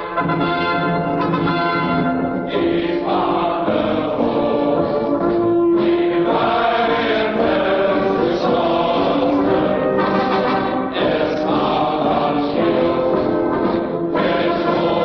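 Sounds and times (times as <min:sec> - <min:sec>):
choir singing an anthem: 0:02.2 - 0:15.0.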